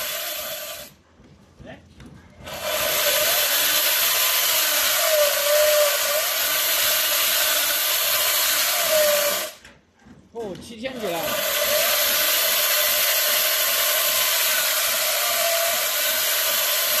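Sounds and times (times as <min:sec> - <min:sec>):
electric chainsaw cutting masonry: 0:00.0 - 0:01.0, 0:02.4 - 0:09.7, 0:10.8 - 0:17.0.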